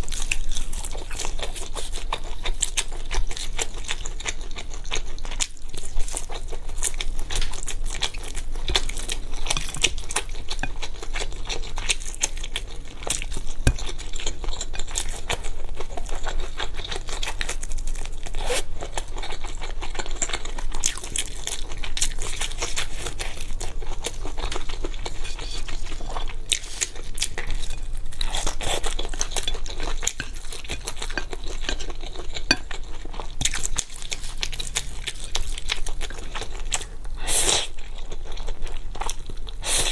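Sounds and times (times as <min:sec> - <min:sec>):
close chewing mouth sounds: 0:00.0 - 0:39.9.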